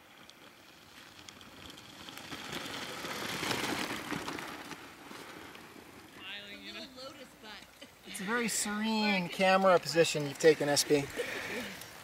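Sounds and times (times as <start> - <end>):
bike tyres crunching over stones: 0.0 - 12.0.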